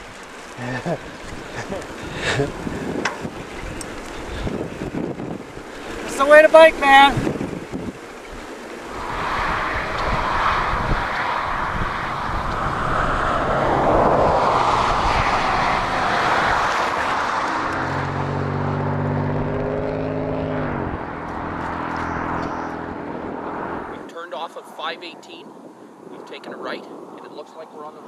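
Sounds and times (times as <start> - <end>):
steady rushing noise: 0.0 - 28.0.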